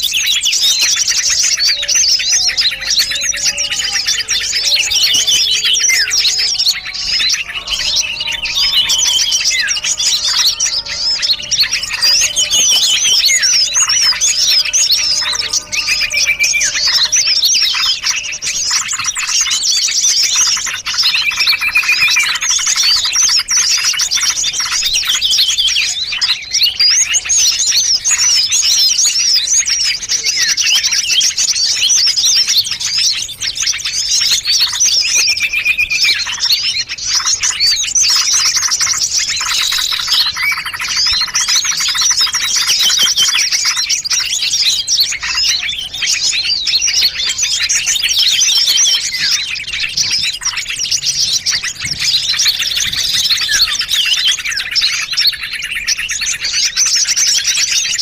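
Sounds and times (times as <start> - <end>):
small songbirds chattering: 0.0 - 58.0.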